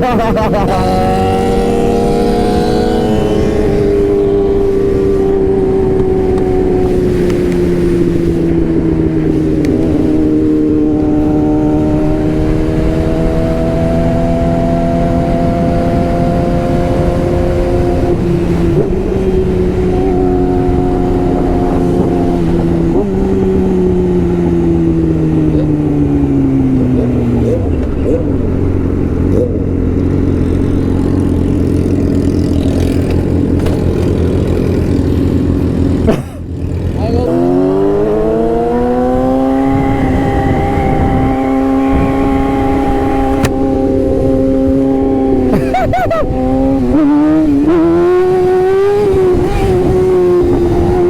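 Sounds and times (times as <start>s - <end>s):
wind rush: 0.0s - 36.1s, 37.0s - 51.0s
motorcycle engine cruising: 0.0s - 51.0s.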